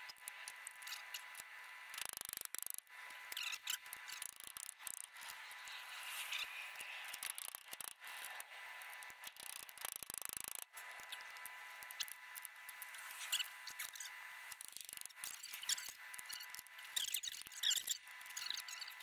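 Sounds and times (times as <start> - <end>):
small metal clicks: 0.0 - 19.0.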